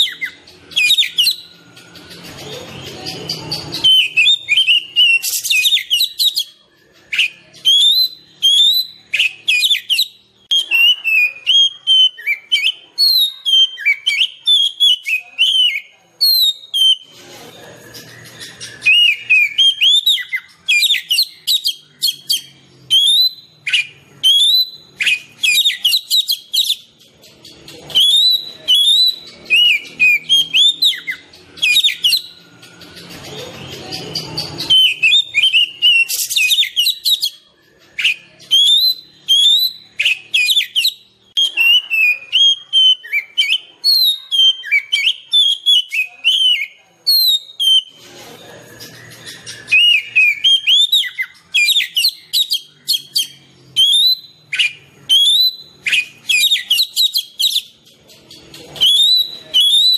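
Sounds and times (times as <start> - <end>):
bird singing whistles and chirps: 0.0 - 59.9.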